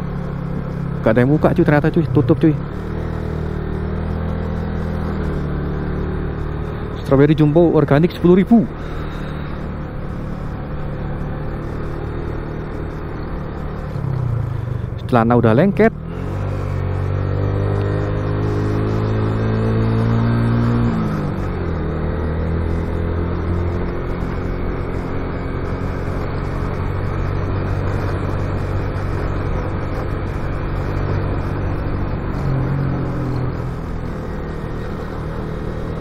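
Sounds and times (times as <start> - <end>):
motorcycle engine running: 0.0 - 36.0
road and wind noise: 0.0 - 36.0.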